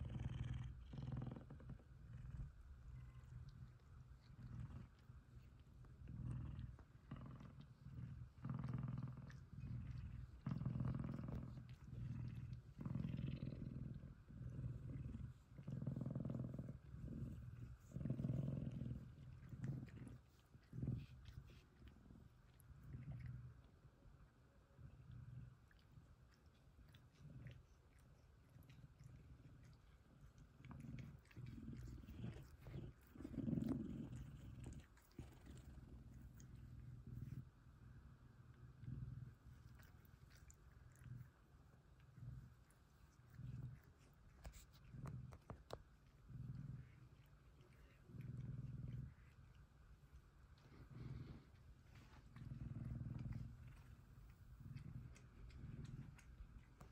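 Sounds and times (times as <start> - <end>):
cat purring loudly: 0.0 - 56.9.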